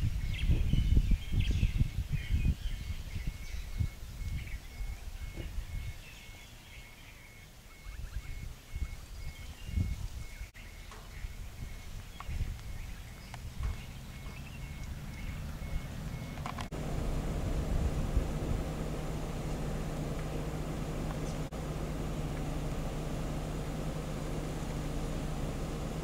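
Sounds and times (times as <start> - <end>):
birds chirping: 0.0 - 26.0
low rumbling: 0.0 - 26.0.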